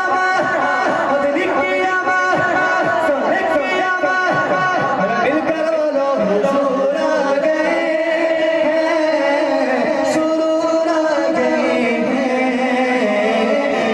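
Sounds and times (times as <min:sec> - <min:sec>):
person singing chant-like melody: 0:00.0 - 0:13.9.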